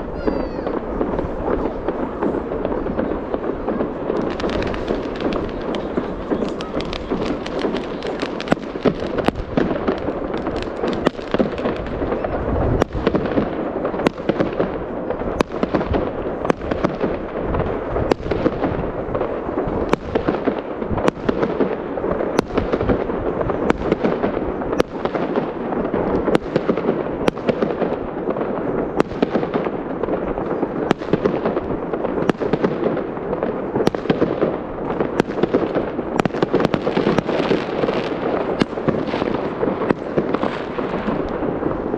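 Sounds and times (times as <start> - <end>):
fireworks crackling: 0.0 - 41.9.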